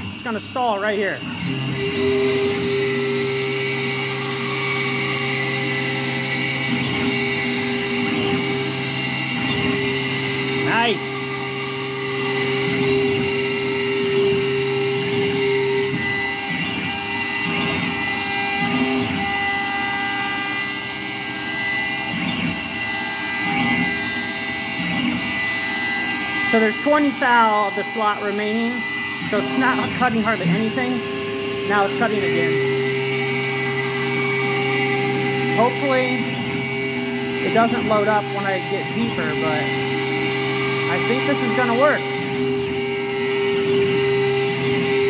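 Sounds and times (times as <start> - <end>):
milling machine cutting metal: 0.0 - 45.0.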